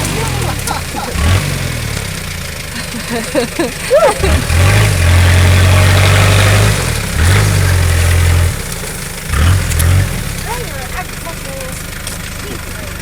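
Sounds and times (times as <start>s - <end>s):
diesel engine revving hard: 0.0s - 13.0s.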